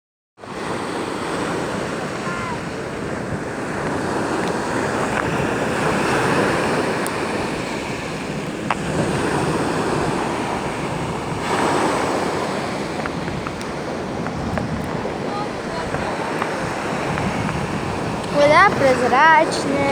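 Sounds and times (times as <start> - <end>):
sea waves breaking: 0.4 - 19.9.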